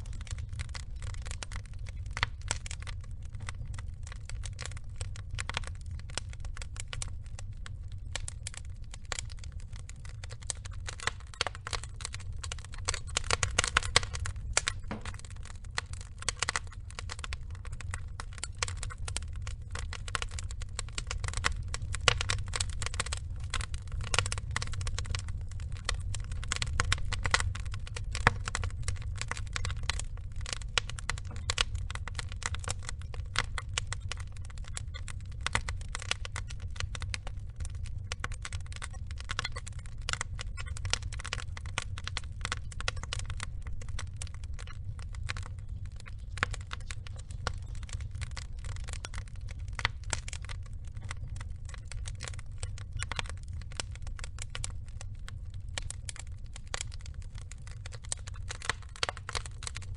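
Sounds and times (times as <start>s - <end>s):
burning logs crackling and popping: 0.0s - 59.9s.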